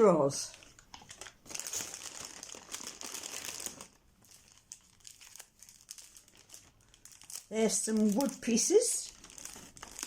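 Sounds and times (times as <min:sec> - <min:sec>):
packaging crinkling and rustling: 0:00.2 - 0:10.0.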